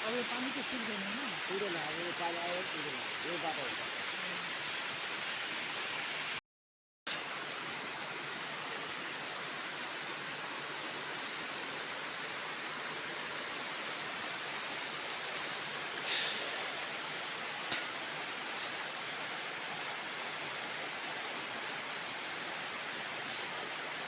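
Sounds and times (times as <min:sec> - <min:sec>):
river water rushing: 0:00.0 - 0:06.4, 0:07.1 - 0:24.0.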